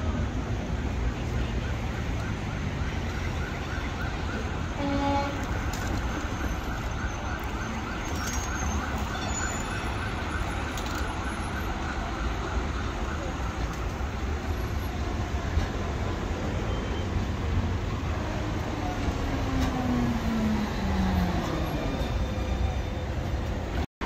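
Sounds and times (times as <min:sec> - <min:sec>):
city traffic rumble: 0:00.0 - 0:23.9
emergency siren wavering: 0:00.0 - 0:23.9.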